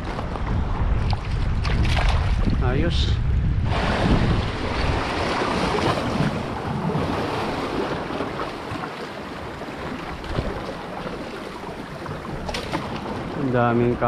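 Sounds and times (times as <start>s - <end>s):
sea water washing on shore: 0.0s - 14.0s
wind buffeting microphone: 0.0s - 14.0s.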